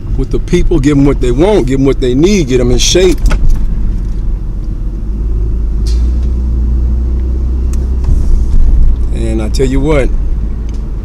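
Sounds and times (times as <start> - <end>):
car rumble inside cabin: 0.0 - 11.0.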